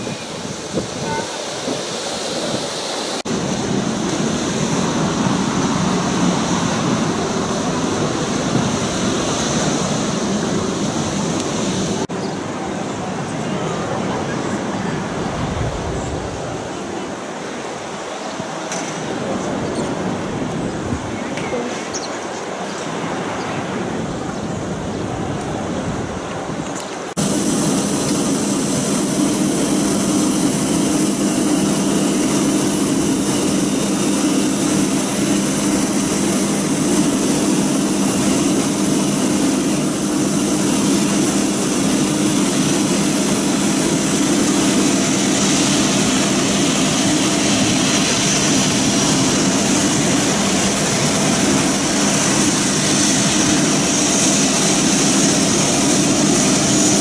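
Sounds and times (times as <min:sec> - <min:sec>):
jet engines whining: 0:00.0 - 0:21.5, 0:22.3 - 0:57.0.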